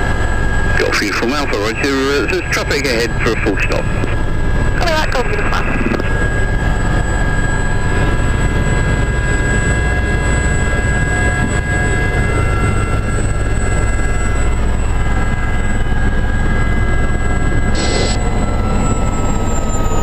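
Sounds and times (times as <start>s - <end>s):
helicopter rotor and engine rumble: 0.0s - 20.0s
high turbine whine: 0.0s - 20.0s.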